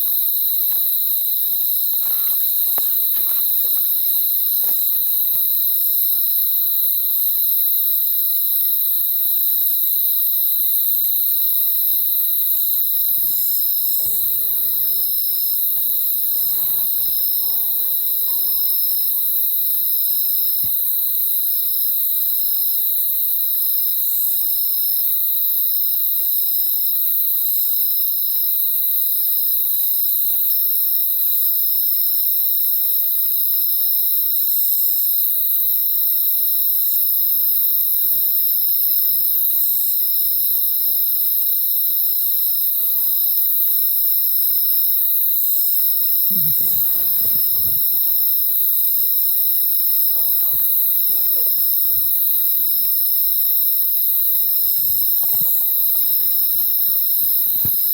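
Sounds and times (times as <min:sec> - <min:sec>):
crickets trilling: 0:00.0 - 0:57.9.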